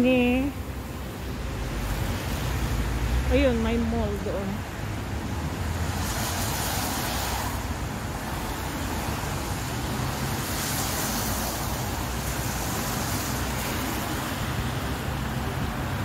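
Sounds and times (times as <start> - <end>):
traffic on a wet road: 0.0 - 16.0.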